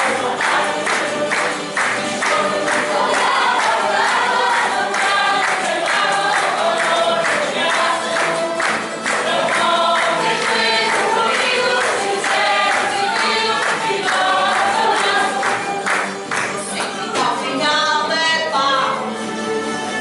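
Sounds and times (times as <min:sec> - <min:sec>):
group of voices singing in chorus: 0:00.0 - 0:18.0
musical accompaniment with steady beat: 0:00.0 - 0:20.0.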